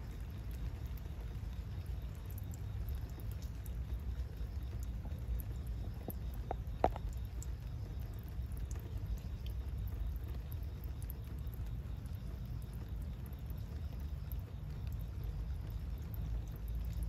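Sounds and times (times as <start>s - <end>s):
water dripping onto wet asphalt: 0.0s - 17.0s.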